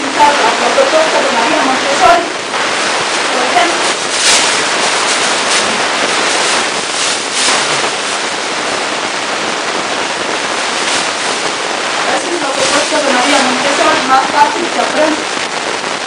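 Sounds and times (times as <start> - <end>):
steady loud hiss: 0.0 - 16.0.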